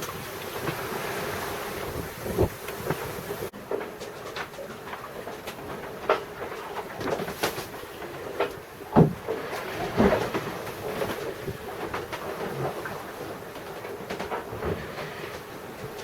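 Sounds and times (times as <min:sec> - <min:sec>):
knocks and clunks on a sailboat: 0:00.0 - 0:16.0.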